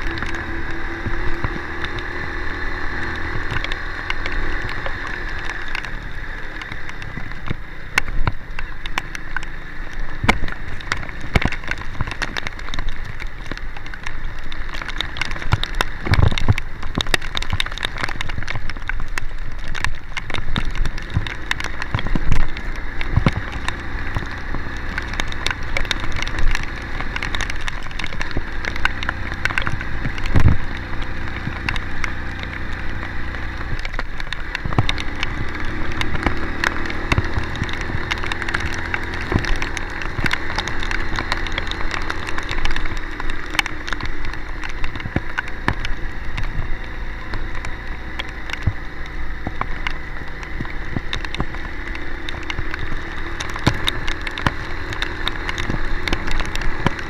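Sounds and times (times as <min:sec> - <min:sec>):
low engine hum: 0:00.0 - 0:57.0
rain pattering on vehicle: 0:00.0 - 0:57.0.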